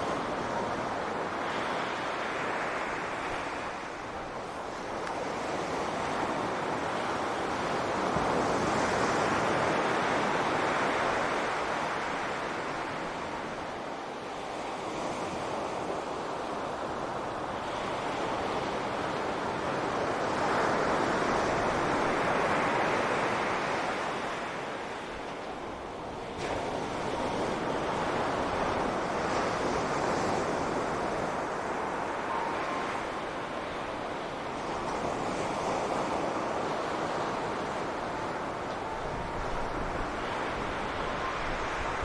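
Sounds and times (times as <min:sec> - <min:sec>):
ocean waves breaking on beach: 0:00.0 - 0:42.0.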